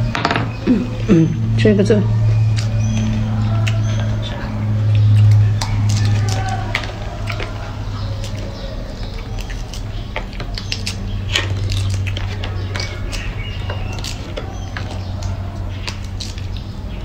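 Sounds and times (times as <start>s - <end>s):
steady low hum: 0.0s - 17.0s
fruit being peeled and chewed: 2.1s - 17.0s.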